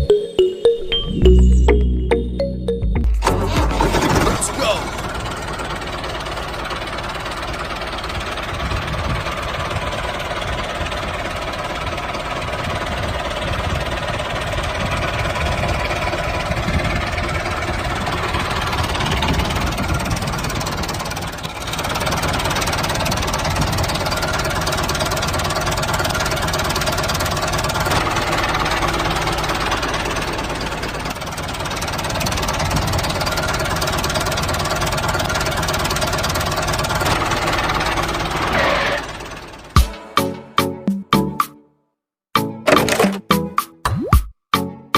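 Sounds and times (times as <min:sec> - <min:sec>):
small tractor motor running: 0:03.2 - 0:39.8.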